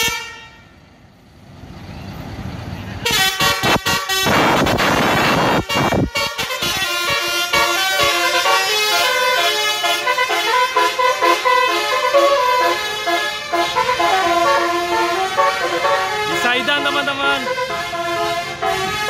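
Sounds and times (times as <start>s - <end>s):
bus melodic horn playing tune: 0.0s - 0.8s, 3.0s - 19.0s.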